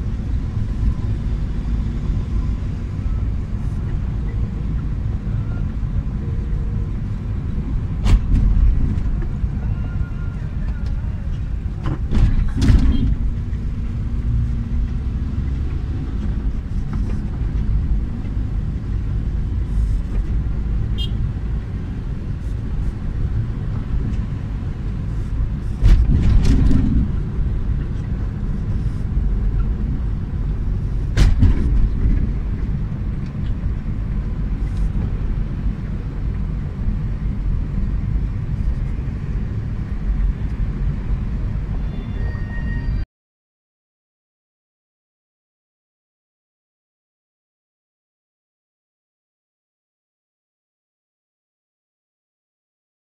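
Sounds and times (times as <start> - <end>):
car road rumble: 0.0 - 43.0.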